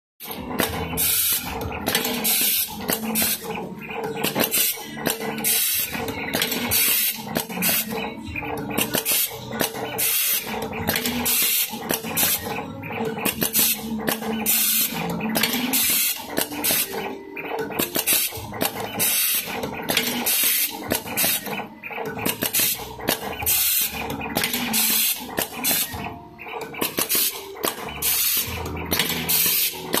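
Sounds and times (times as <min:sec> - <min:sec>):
machine motor whine: 0:00.2 - 0:30.0.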